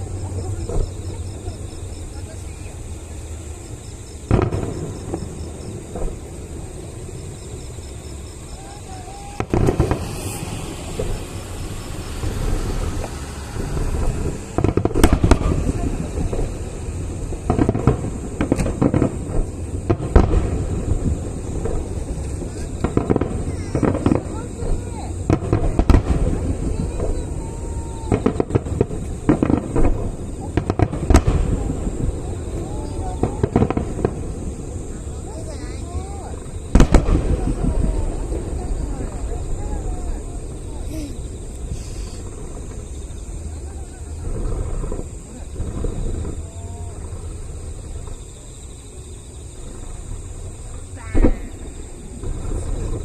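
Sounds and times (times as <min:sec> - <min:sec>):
firework sharp bang: 0:00.0 - 0:02.7, 0:04.2 - 0:07.3, 0:08.3 - 0:48.7, 0:49.6 - 0:53.0
low rumble: 0:00.0 - 0:53.0.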